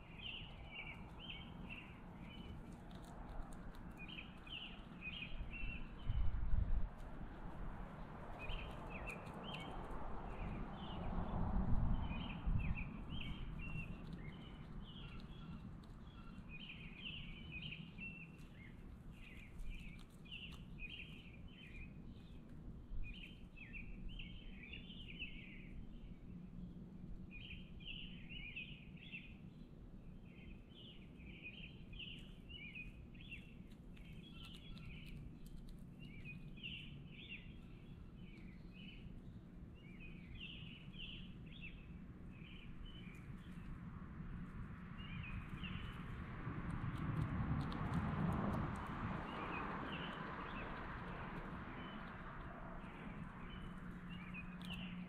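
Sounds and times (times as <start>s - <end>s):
birds chirping: 0.0s - 3.1s, 3.8s - 6.4s, 7.8s - 46.3s, 49.2s - 55.0s
low background rumble: 0.0s - 55.0s.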